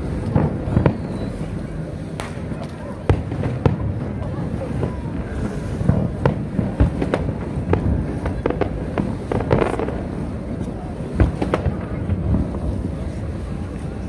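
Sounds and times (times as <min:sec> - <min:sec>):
deep fireworks booms: 0:00.0 - 0:14.0
fireworks bangs and crackles: 0:00.0 - 0:14.0.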